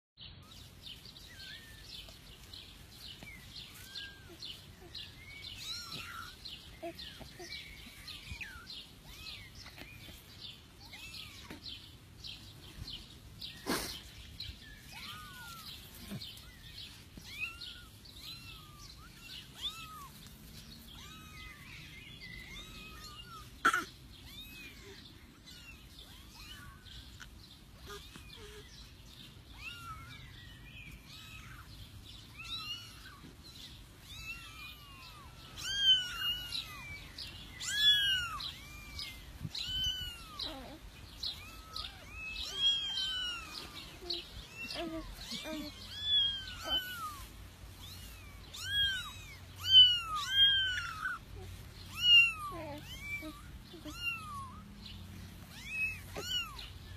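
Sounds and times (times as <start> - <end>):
kittens mewing: 0.4 - 56.9.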